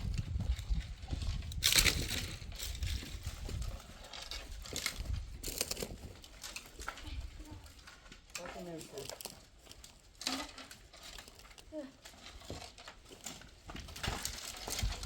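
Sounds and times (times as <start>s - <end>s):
crunching and crackling: 0.0s - 15.0s.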